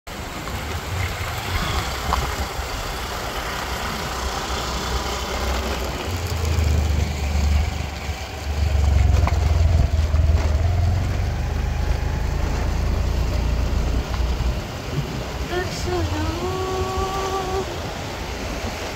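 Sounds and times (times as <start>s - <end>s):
vehicle driving low rumble: 0.1s - 18.9s.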